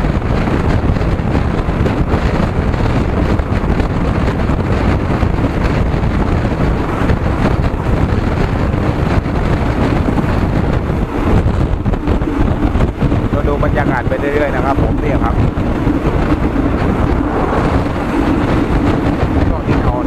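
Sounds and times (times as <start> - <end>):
vehicle running: 0.0 - 20.0
wind buffeting microphone: 0.0 - 20.0.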